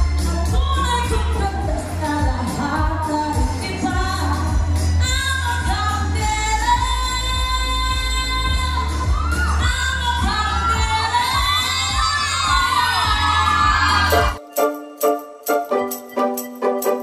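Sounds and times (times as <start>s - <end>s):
woman singing into microphone: 0.0s - 14.0s
backing track with heavy bass: 0.0s - 14.4s.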